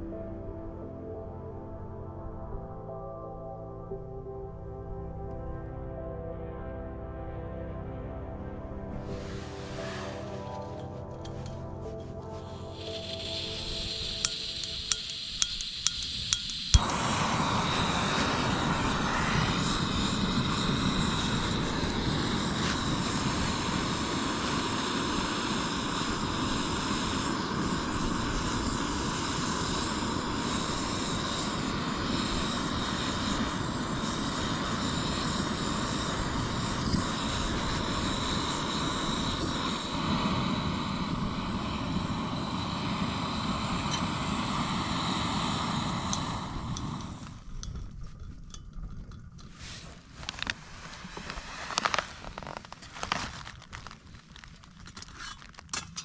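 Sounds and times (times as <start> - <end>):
propeller aircraft whine: 3.9 - 52.5.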